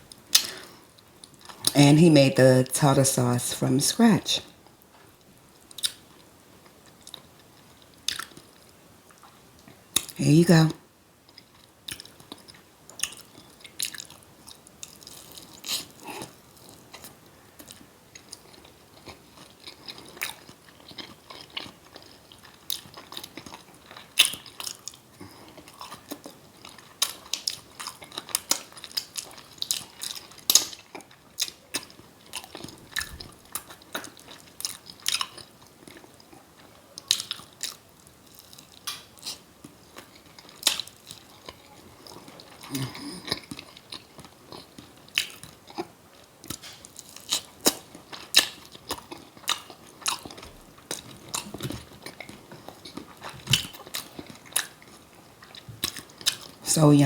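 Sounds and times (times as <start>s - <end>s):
wet chewing and smacking: 5.6s - 10.2s, 11.3s - 56.6s.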